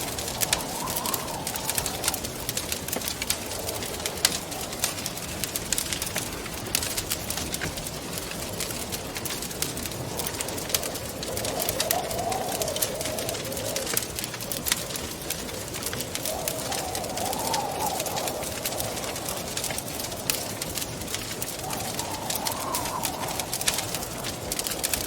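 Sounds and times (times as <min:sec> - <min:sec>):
steady hiss: 0:00.0 - 0:25.0
wind moaning in gusts: 0:00.0 - 0:25.0
wood fire crackling and popping: 0:00.0 - 0:25.0.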